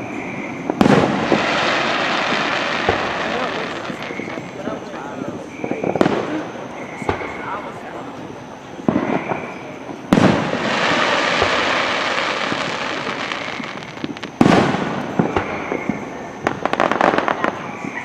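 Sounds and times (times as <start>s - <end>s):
fireworks bangs: 0.0s - 18.0s
fireworks crackling hiss: 0.0s - 18.0s.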